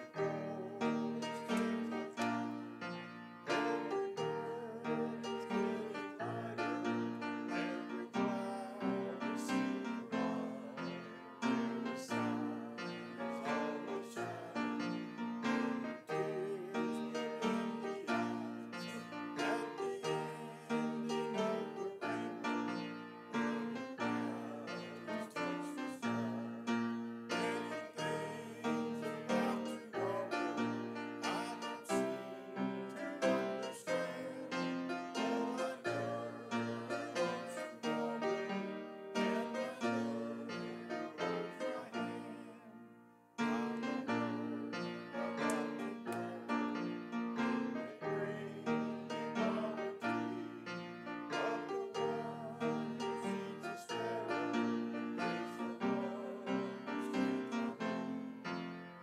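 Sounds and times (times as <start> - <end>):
piano playing a hymn: 0.0 - 59.0.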